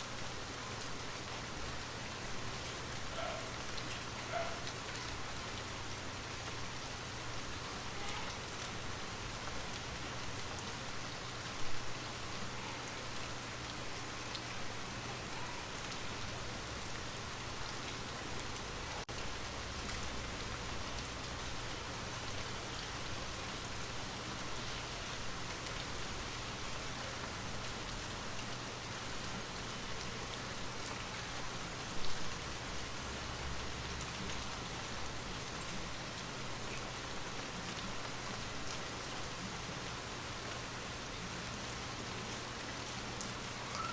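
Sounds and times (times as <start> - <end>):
rain falling on a surface: 0.0 - 43.9.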